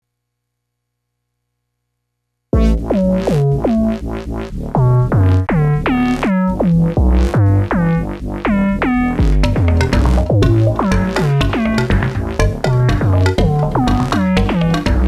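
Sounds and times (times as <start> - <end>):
heavy rhythmic bass beat: 2.6 - 15.0
swooping synth notes: 2.6 - 15.0.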